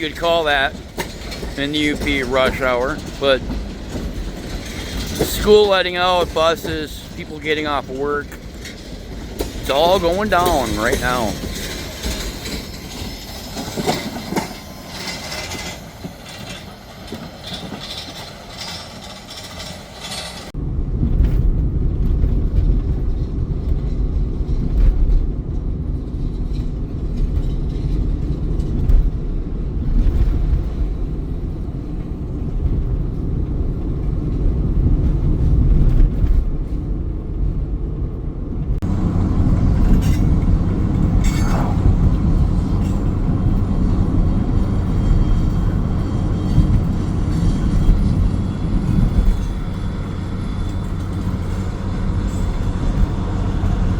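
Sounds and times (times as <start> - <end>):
freight train rumbling: 0.0 - 53.9
wheels clattering over rail joints: 0.0 - 53.9.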